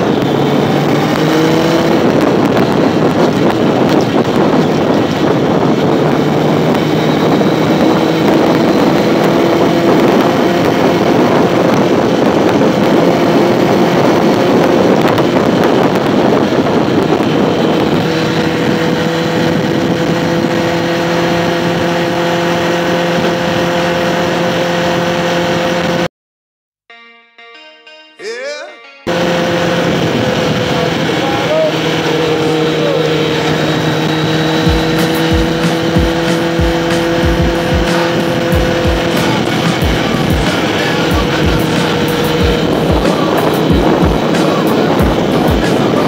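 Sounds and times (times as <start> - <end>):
vehicle engine running: 0.0 - 26.1, 29.1 - 46.0
wind rushing over microphone: 0.0 - 26.1, 29.1 - 46.0.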